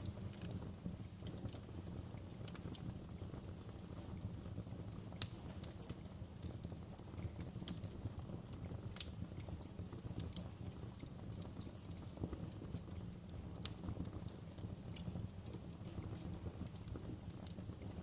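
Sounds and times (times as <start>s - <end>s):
low rumble of burning: 0.0s - 18.0s
wood fire pops and snaps: 0.0s - 18.0s.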